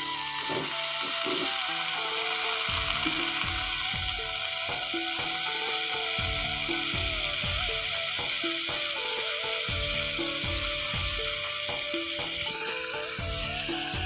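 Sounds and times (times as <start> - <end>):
background music of held notes: 0.0 - 14.0
vegetables sizzling in hot oil: 0.0 - 14.0.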